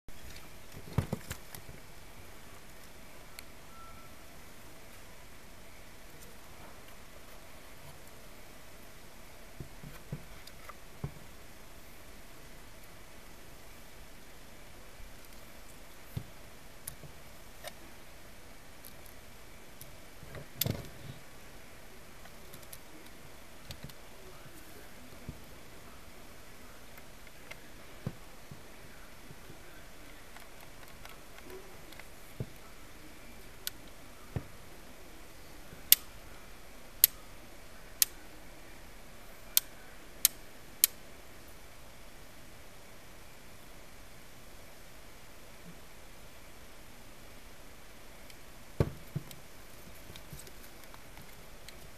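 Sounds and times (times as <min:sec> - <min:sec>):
faint steady hiss: 0:00.1 - 0:51.9.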